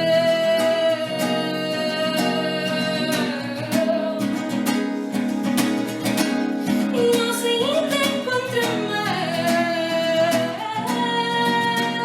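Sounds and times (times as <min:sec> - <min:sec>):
person singing: 0:00.0 - 0:05.3, 0:06.7 - 0:12.0
plucked acoustic guitar: 0:00.0 - 0:12.0.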